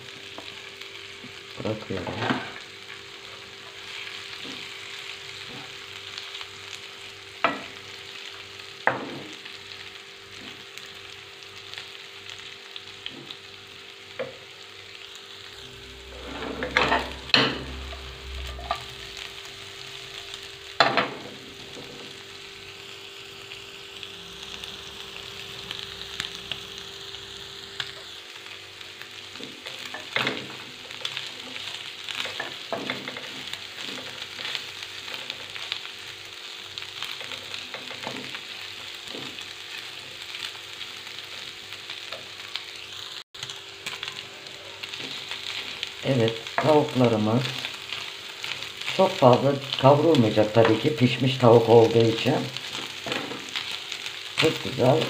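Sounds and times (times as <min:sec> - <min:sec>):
chicken sizzling in a frying pan: 0:00.0 - 0:55.0.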